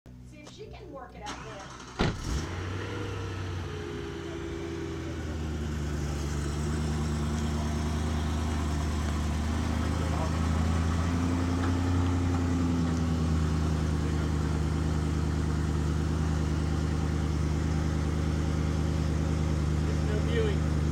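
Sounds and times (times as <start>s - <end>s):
car engine idling: 0.1s - 20.9s.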